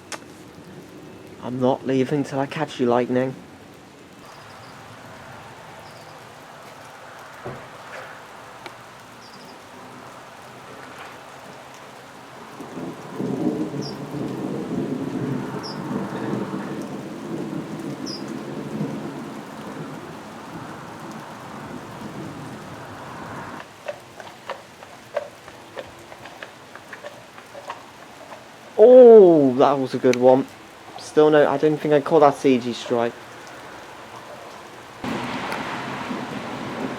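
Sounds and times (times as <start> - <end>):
rain drips and taps: 0.0 - 36.9
steady rain falling: 0.0 - 36.9
thunder rumbling: 4.2 - 36.9.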